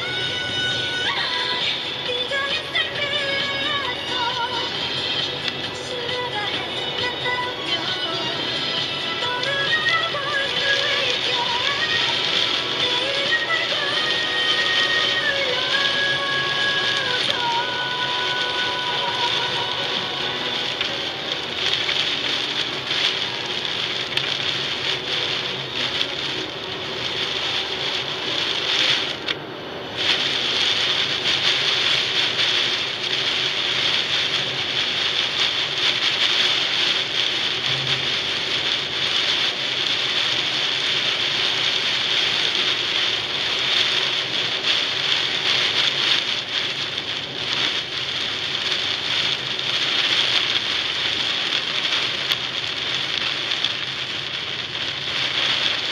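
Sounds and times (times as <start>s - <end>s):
heavy rain on car roof: 0.0s - 55.9s.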